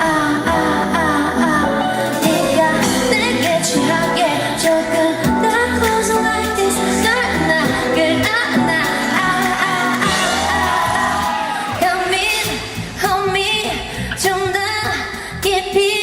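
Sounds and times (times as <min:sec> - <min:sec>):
pop backing track: 0:00.0 - 0:16.0.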